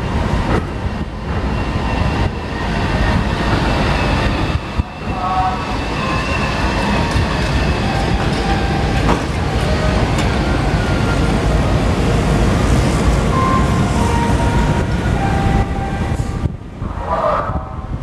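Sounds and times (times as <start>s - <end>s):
ferry engines rumbling: 0.0s - 18.0s.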